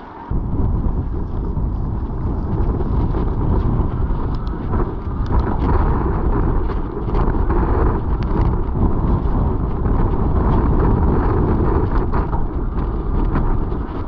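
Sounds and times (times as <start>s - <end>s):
wind buffeting microphone: 0.0s - 14.0s
bike clicks and rattles: 0.6s - 14.0s.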